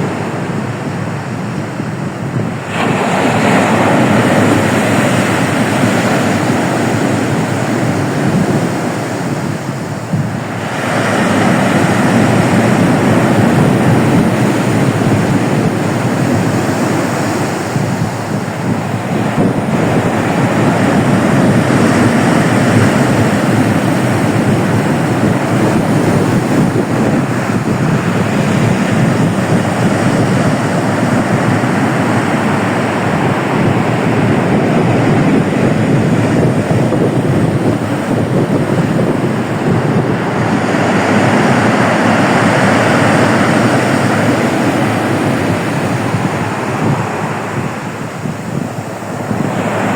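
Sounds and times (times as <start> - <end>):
surf breaking on shore: 0.0 - 49.9
wind buffeting microphone: 0.0 - 49.9.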